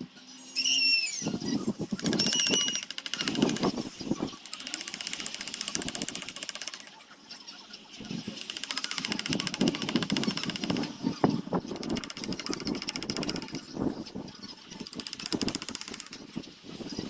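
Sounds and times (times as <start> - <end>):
small motor tool rattling: 1.8 - 7.1, 8.1 - 17.0.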